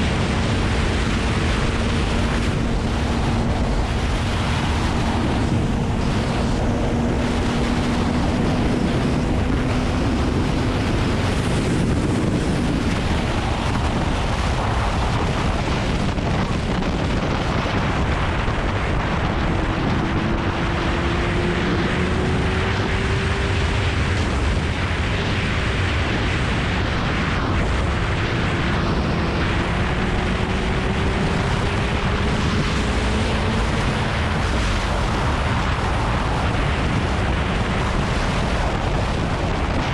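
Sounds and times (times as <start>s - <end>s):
motorcycle engine at speed: 0.0s - 39.9s
wind noise on microphone: 0.0s - 39.9s.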